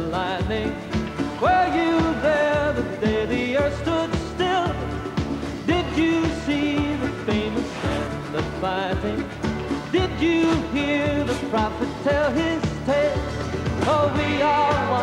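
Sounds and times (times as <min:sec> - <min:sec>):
pop-country band music: 0:00.0 - 0:15.0.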